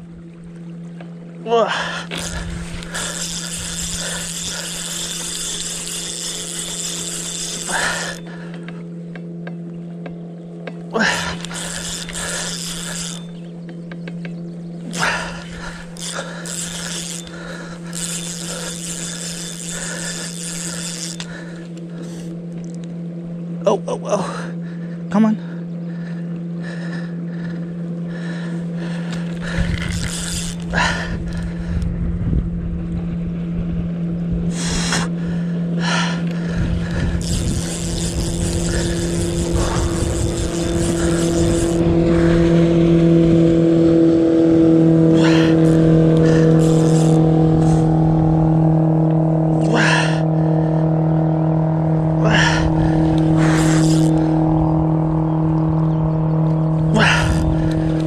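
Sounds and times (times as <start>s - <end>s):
motor engine humming: 0.0s - 58.0s.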